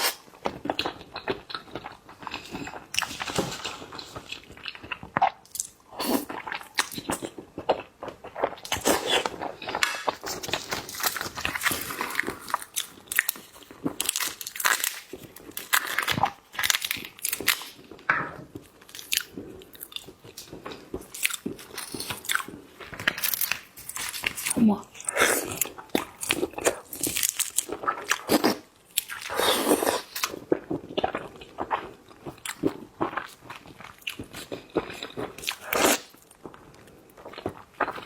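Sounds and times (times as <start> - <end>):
crunchy chewing of seafood: 0.0 - 38.0.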